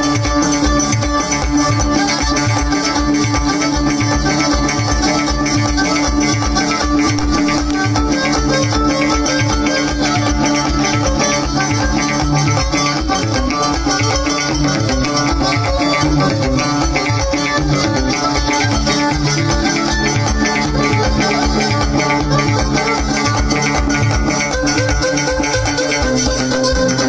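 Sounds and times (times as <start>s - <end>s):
fast drumbeat: 0.0s - 27.0s
plucked strings: 0.0s - 27.0s
rattling percussion: 0.0s - 27.0s.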